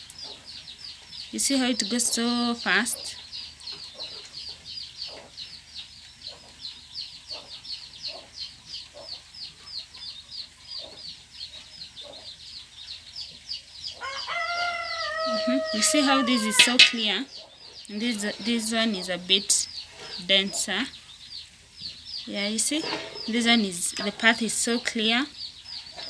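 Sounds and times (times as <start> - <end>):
small bird chirping rapidly: 0.0 - 26.0.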